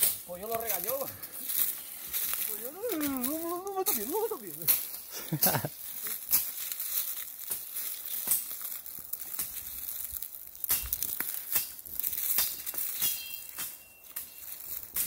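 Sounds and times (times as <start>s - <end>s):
brushing through undergrowth: 0.0s - 15.0s
footsteps crunching dry leaves: 0.0s - 15.0s.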